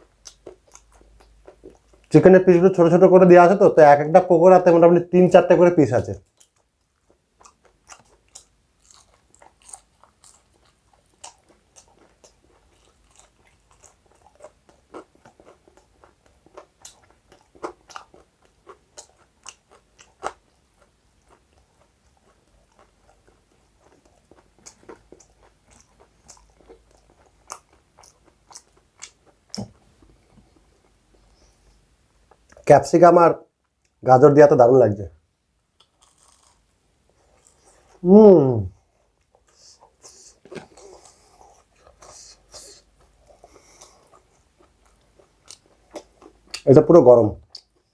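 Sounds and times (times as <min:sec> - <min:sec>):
crunching and chewing fried food: 0:00.0 - 0:02.2, 0:06.2 - 0:32.6, 0:35.8 - 0:38.0, 0:38.9 - 0:46.8, 0:47.4 - 0:47.9.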